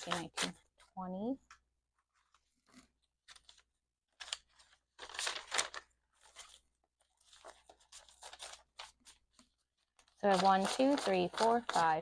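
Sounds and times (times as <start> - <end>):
paper banknotes rustling: 2.2 - 12.0.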